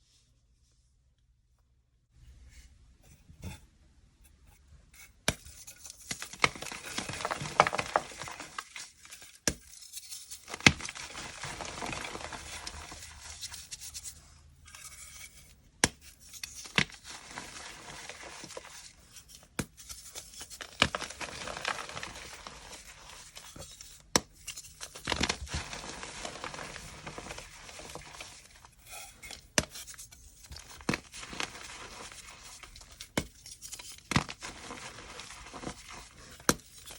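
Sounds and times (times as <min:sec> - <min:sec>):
chalk crunching and crumbling: 0:05.3 - 0:36.9.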